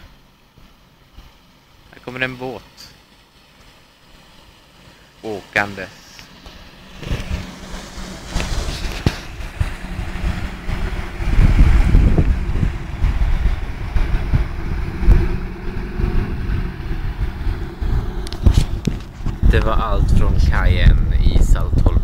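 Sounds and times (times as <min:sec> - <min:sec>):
boat engine rumble: 0:00.0 - 0:22.0
boat wake washing: 0:00.0 - 0:22.0
wind buffeting microphone: 0:03.6 - 0:22.0.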